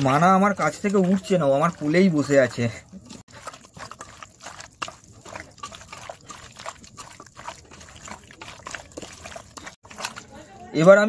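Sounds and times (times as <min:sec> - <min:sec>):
wet squelches of kneading meat: 0:00.0 - 0:11.0.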